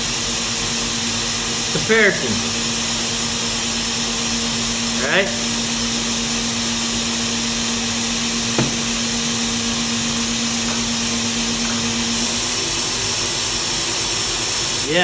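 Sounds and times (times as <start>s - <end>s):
paint-sprayer turbine running: 0.0s - 15.0s.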